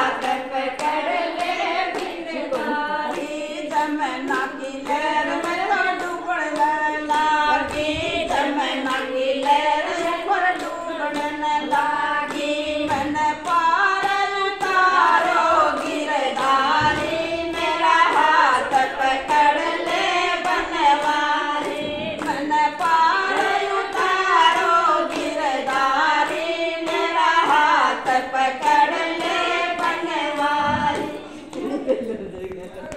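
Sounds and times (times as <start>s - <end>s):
voices singing devotional song: 0.0s - 32.2s.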